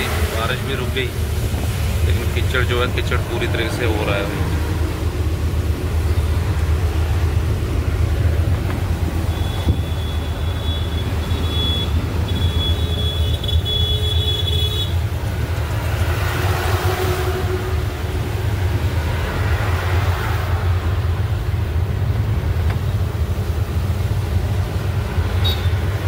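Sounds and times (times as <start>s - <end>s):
truck engine and tyres droning: 0.0s - 26.0s.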